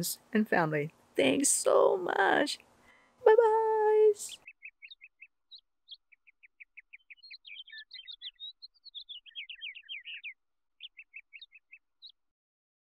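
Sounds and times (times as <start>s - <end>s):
small songbird chirping: 1.3s - 12.3s.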